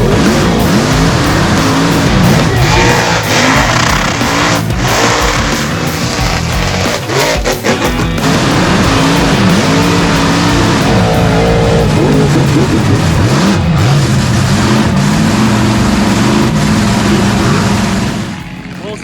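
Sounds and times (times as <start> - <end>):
truck engines revving hard: 0.0 - 19.0.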